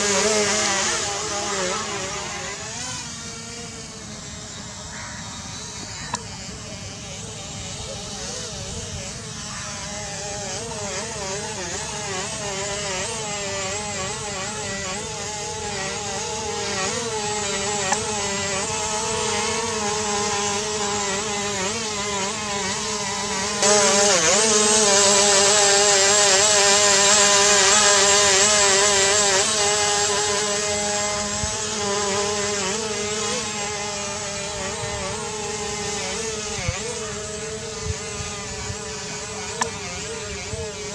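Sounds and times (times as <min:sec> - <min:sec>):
rc airplane motors whining: 0:00.0 - 0:40.9.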